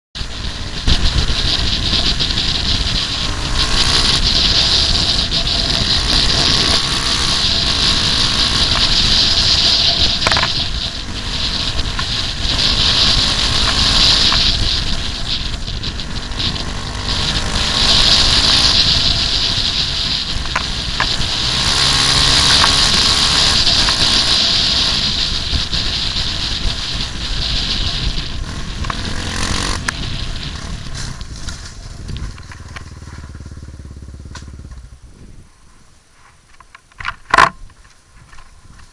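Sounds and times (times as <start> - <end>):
dirt bike engine revving: 0.2 - 35.2
wind rumble on microphone: 0.2 - 38.9.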